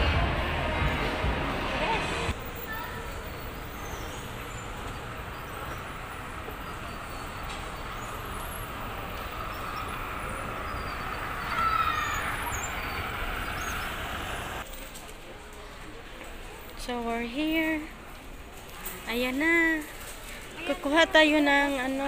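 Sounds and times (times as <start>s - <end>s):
department store rumble: 0.0s - 22.0s.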